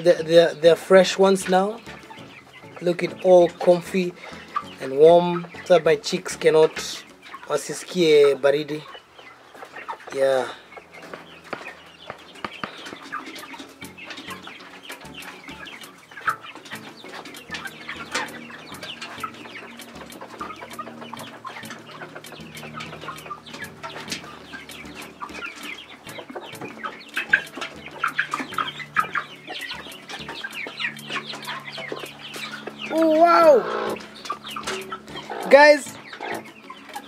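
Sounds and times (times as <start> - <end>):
young chickens peeping and clucking: 0.0 - 37.0.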